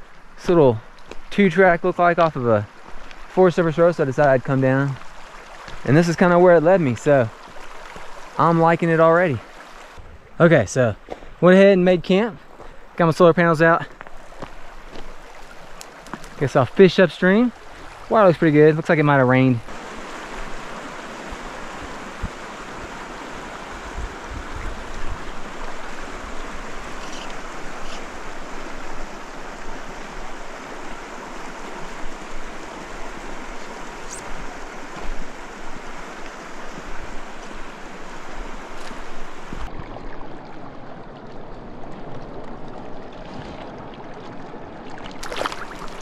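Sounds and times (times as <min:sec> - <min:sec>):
creek flowing over stones: 0:00.0 - 0:46.0.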